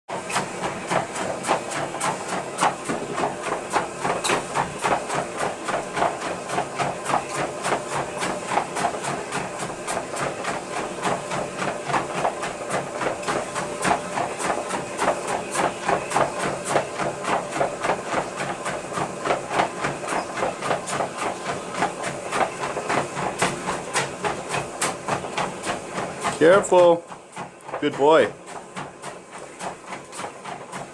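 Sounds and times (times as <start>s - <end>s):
dog paws striking treadmill belt: 0.1s - 30.9s
treadmill humming: 0.1s - 30.9s.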